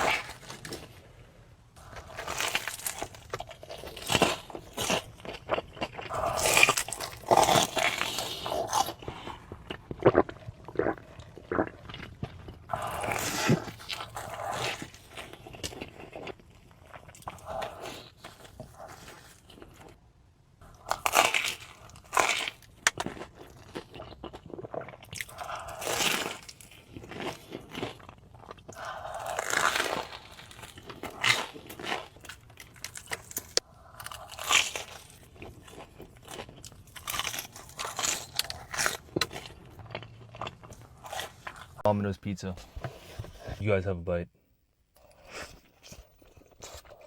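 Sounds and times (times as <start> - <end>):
chewing: 1.8 - 20.0, 20.6 - 41.9
crunchy food bites: 1.8 - 20.0, 20.6 - 41.9.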